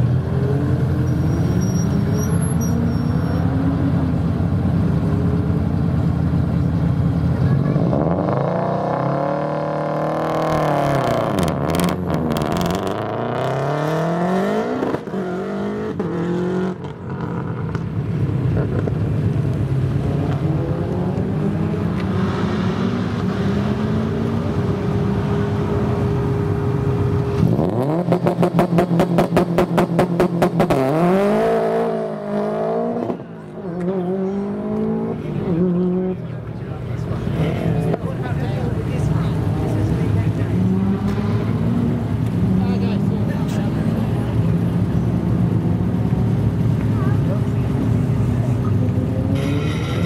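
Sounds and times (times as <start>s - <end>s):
rally car engines revving: 0.0s - 50.0s.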